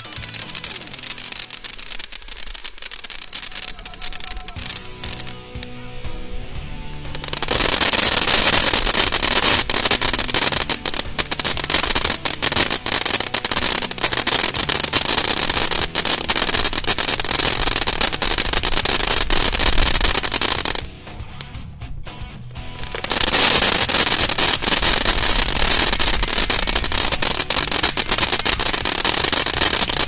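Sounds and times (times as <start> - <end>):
firework fountain hissing and crackling: 0.0 - 5.8, 6.8 - 20.9, 22.7 - 30.0.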